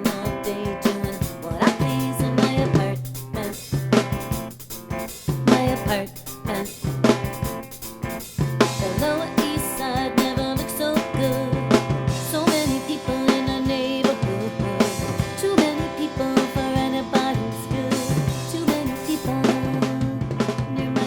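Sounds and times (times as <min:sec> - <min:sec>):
drum kit beat: 0:00.0 - 0:21.0.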